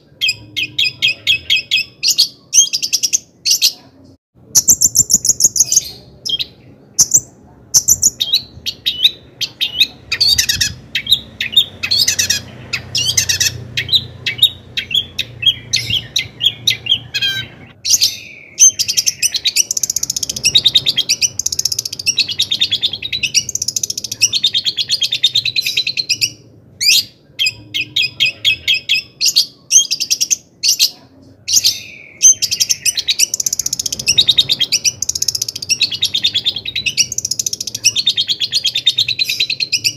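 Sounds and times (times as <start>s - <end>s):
bird singing chirps and trills: 4.5s - 39.9s.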